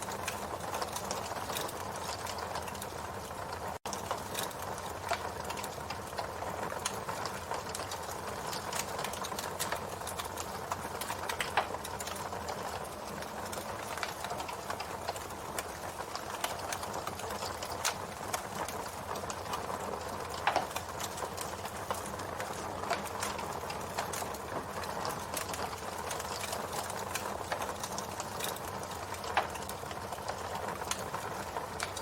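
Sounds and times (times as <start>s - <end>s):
campfire wood crackling: 0.0s - 32.0s.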